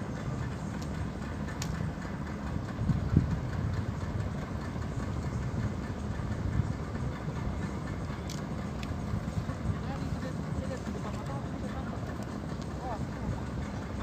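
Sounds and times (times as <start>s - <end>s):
engine running low rumble: 0.0s - 14.0s.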